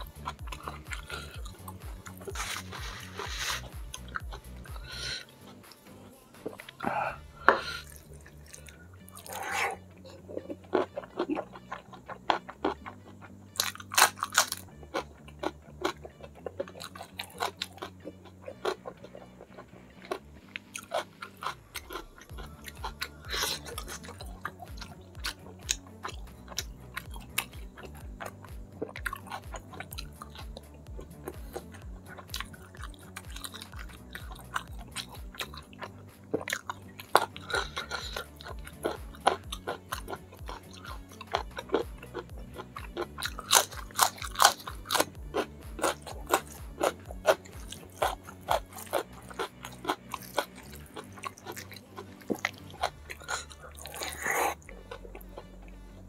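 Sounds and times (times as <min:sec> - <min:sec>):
person chewing and crunching: 0:00.0 - 0:56.0
soft background music: 0:00.0 - 0:56.0.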